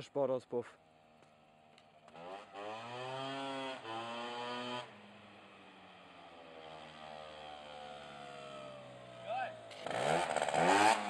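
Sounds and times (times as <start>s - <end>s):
scooter engine blipping and idling: 0.8s - 11.0s.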